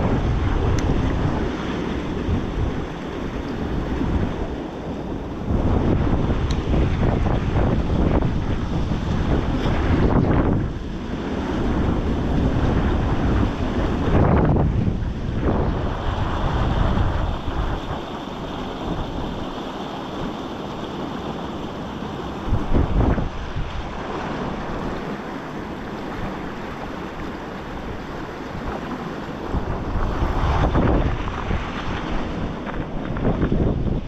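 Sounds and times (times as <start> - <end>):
river water rushing: 0.0 - 34.0
wind buffeting microphone: 0.0 - 34.0.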